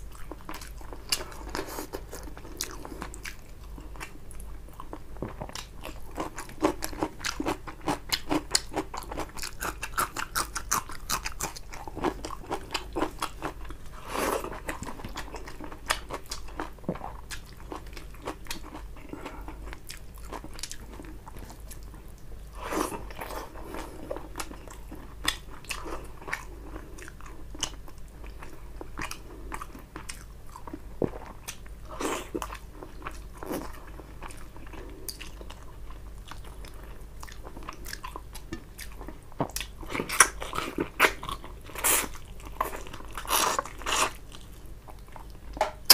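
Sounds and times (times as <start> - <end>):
wet chewing and mouth sounds: 0.0 - 45.9.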